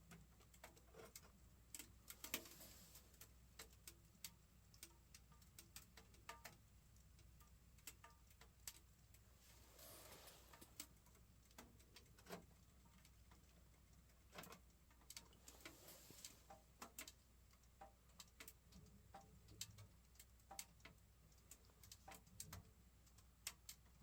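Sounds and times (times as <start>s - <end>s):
wood crackling in a stove: 0.0s - 24.0s.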